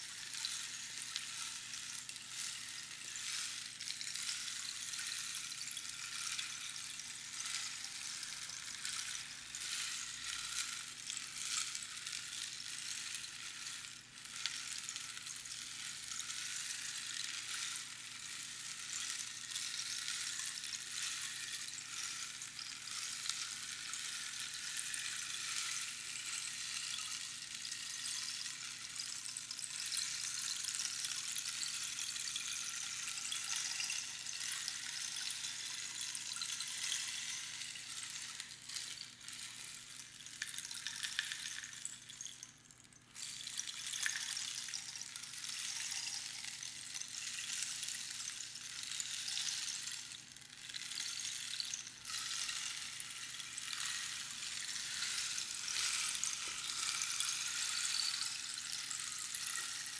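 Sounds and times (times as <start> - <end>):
rainstick pebbles pattering: 0.0 - 59.9.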